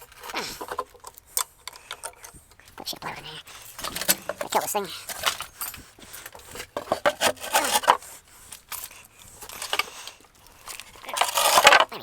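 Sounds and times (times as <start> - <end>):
tools scraping metal parts: 0.0 - 12.0.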